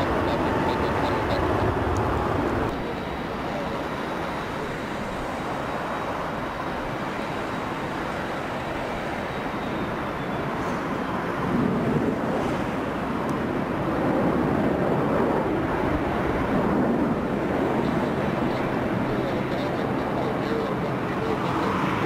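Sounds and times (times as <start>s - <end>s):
jet engines idling: 0.0s - 11.5s, 12.2s - 22.0s.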